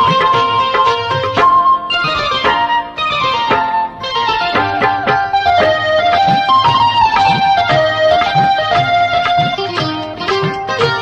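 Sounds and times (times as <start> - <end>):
instrumental music with drum beat: 0.0 - 11.0.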